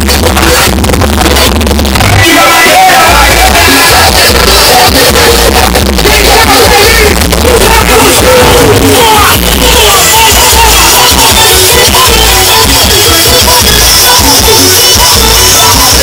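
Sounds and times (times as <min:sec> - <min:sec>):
bass-heavy music with singing: 0:00.0 - 0:16.0.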